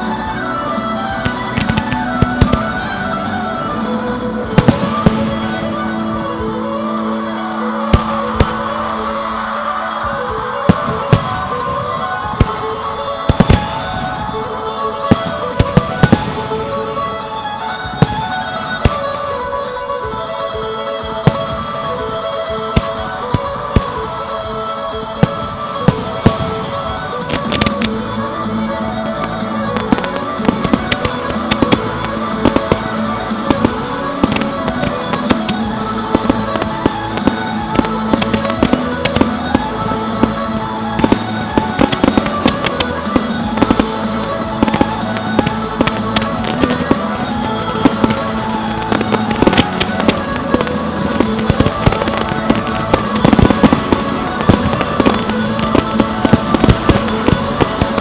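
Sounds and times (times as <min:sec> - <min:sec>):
fireworks bursting and crackling: 0:00.0 - 0:58.0
loud recorded music: 0:00.0 - 0:58.0.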